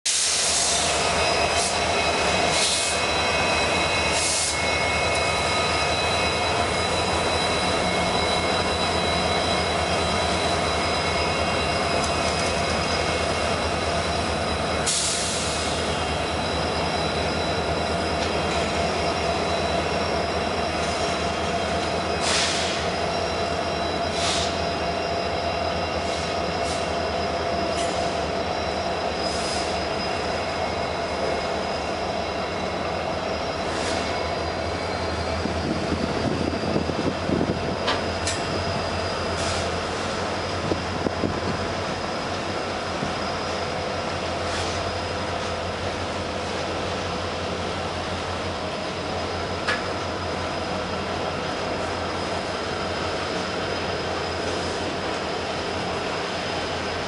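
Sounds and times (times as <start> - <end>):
high wheel squeal: 0.2 - 57.0.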